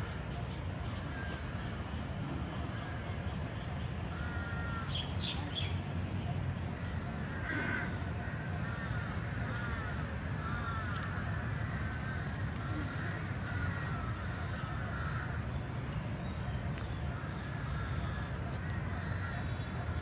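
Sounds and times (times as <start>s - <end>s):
birds calling: 2.6s - 20.0s.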